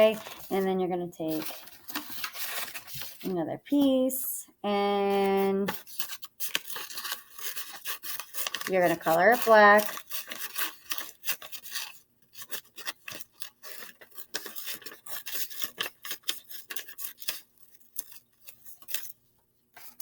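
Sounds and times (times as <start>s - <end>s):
paper rubbing and rustling: 0.0s - 3.4s, 5.1s - 19.2s, 19.8s - 20.0s.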